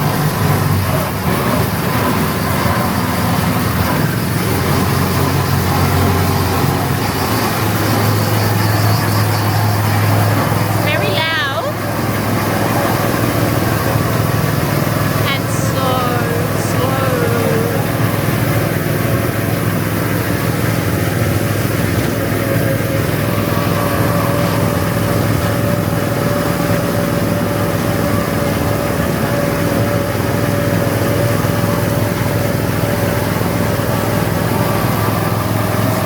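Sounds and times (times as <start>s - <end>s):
small petrol engine running: 0.0s - 36.0s.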